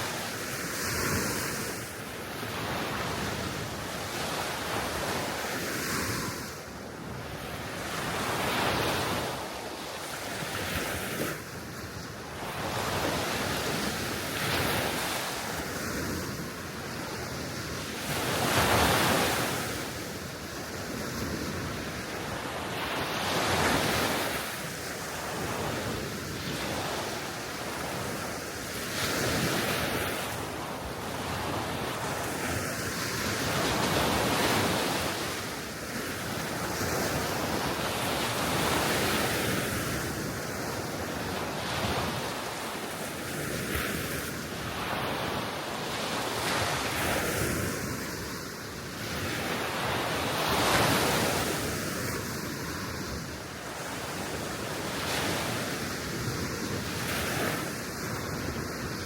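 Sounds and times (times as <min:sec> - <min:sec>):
small waves washing onto shore: 0:00.0 - 0:59.0.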